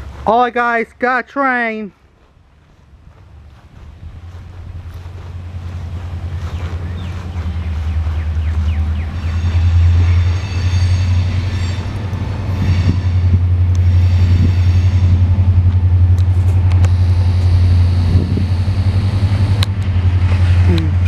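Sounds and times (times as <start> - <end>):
diesel locomotive droning: 0.0 - 1.0, 1.9 - 21.0.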